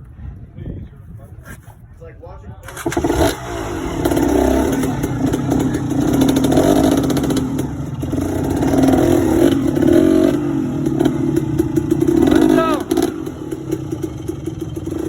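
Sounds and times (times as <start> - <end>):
dirt bike engine revving: 2.6 - 15.0.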